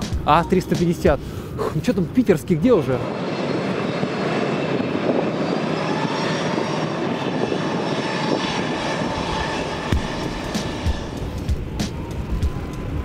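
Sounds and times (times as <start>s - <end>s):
jet engine roar: 0.0s - 13.0s
faint high whine: 2.0s - 13.0s.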